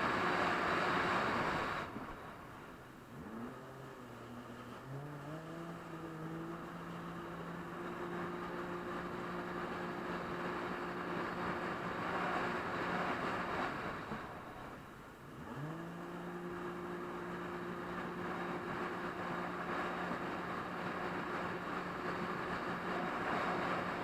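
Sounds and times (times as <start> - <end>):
jet ski engine revving: 0.0 - 24.0.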